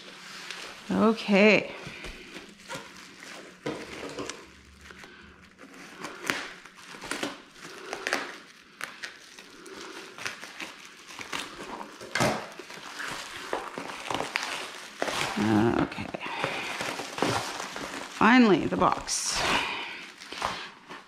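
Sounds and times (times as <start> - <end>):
bubble wrap crinkling and crackling: 0.0 - 21.0
scissors cutting bubble wrap: 0.0 - 21.0.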